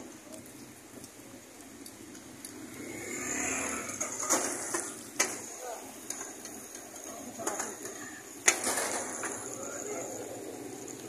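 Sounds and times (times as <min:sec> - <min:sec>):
flatbread sizzling on a griddle: 0:00.0 - 0:11.0.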